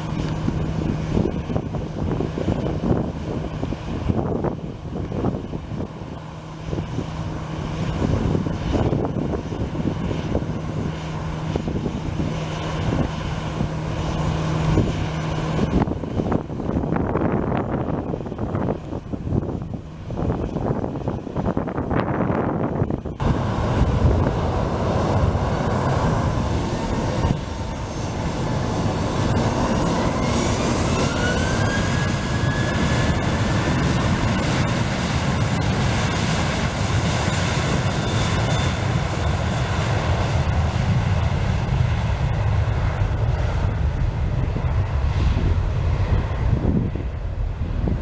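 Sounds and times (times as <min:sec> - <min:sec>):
jet engines running up: 0:00.0 - 0:48.0.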